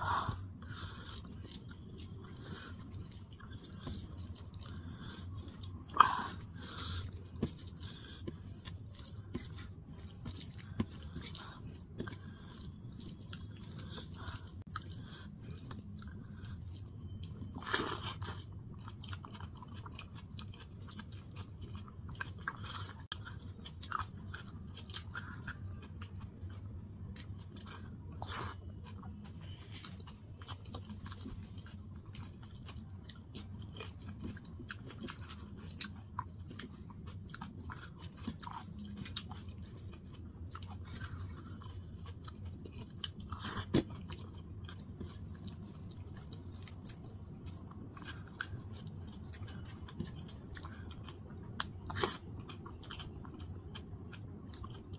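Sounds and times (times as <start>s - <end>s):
wet chewing: 0.0s - 54.9s.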